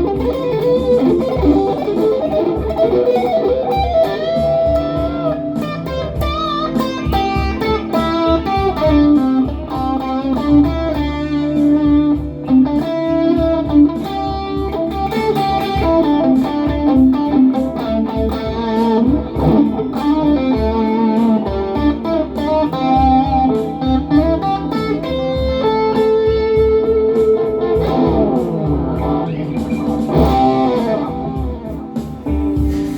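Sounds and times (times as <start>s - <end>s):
electric guitar lead lines: 0.0s - 32.9s.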